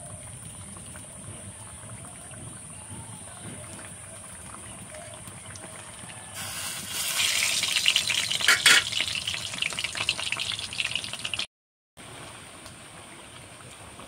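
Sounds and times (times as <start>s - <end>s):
dough deep-frying in oil: 0.0s - 14.0s.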